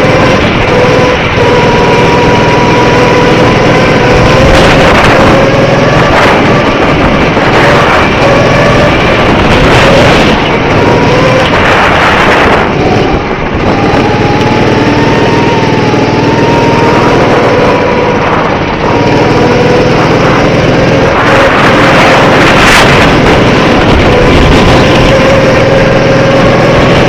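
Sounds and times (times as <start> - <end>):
go-kart engine whining: 0.0 - 27.0
loud rushing noise: 0.0 - 27.0.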